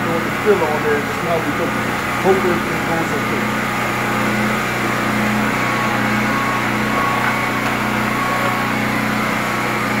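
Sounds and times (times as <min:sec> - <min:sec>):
motor droning: 0:00.0 - 0:10.0.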